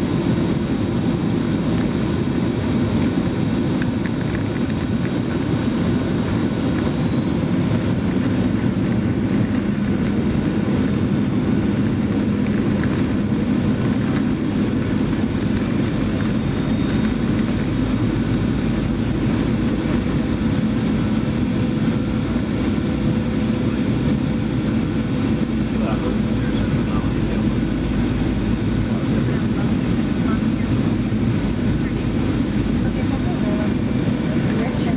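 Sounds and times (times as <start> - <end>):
airplane cabin engine roar: 0.0 - 34.9.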